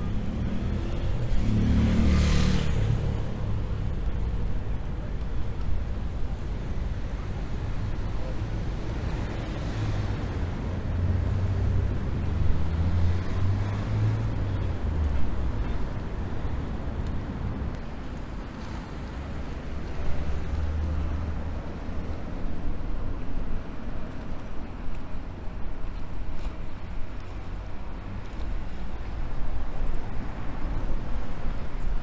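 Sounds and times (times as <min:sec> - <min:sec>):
city traffic engines rumbling: 0:00.0 - 0:32.0.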